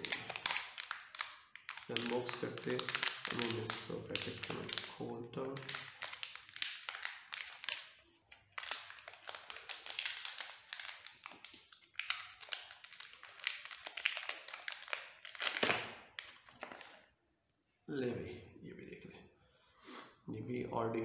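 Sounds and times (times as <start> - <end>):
plastic packet crinkling: 0.0 - 17.0.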